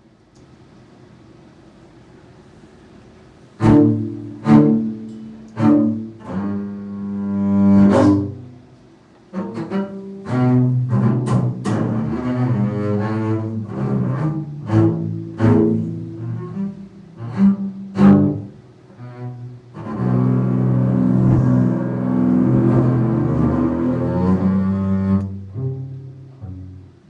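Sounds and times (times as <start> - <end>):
solo bowed string instrument: 3.3 - 27.0.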